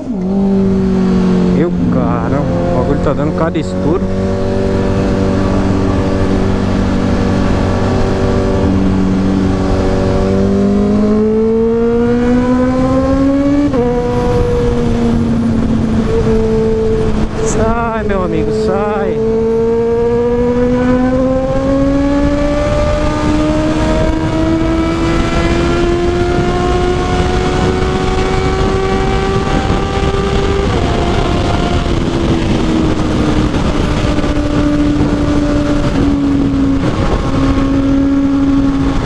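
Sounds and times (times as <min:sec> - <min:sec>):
motorcycle engine at high speed: 0:00.0 - 0:39.0
wind rush on microphone: 0:00.0 - 0:39.0.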